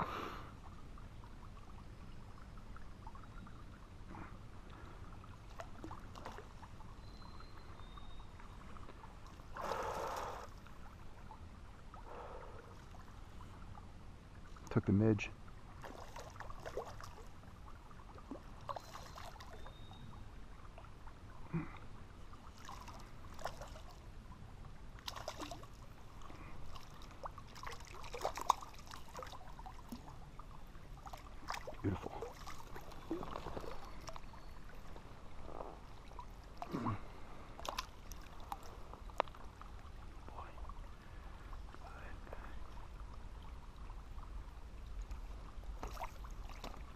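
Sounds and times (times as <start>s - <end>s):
splashes and drips in shallow water: 0.0s - 46.9s.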